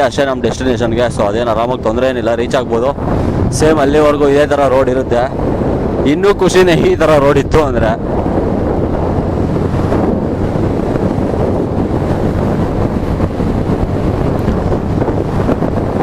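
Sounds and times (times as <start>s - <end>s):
wind rush on microphone: 0.0s - 16.0s
motorcycle engine droning: 0.8s - 16.0s.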